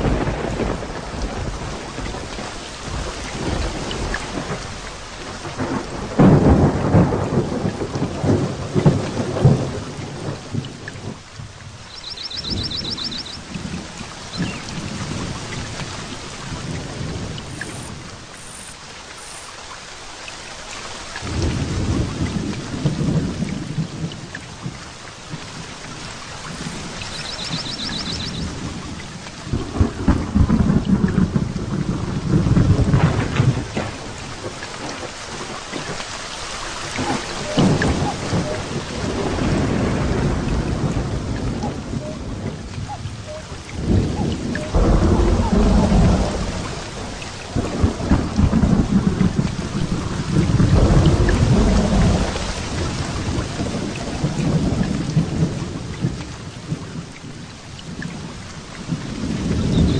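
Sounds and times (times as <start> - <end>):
thunder rumbling: 0.0 - 18.8, 21.2 - 36.0, 36.7 - 59.9
heavy rain pouring: 0.0 - 59.9.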